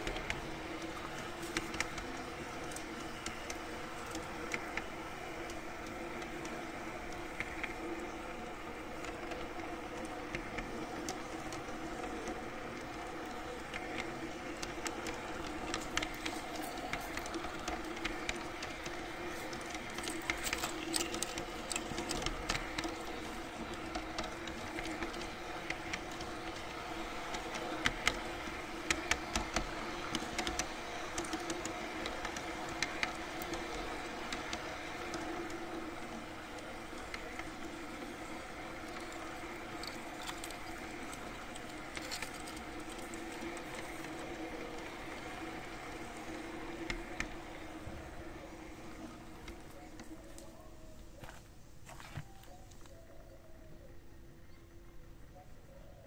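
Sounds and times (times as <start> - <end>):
electric motor hum: 0.0 - 52.9
wheels clicking over rail joints: 0.0 - 53.2.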